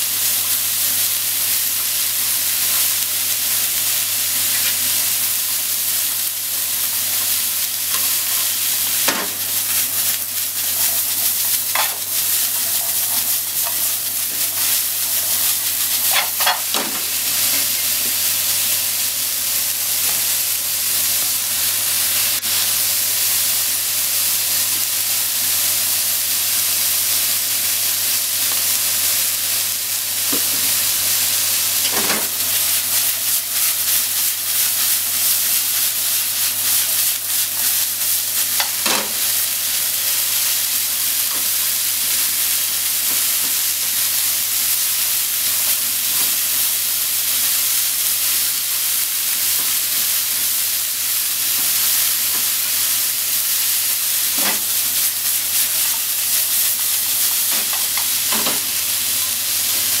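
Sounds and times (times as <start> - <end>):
vegetables sizzling in a frying pan: 0.0 - 60.0.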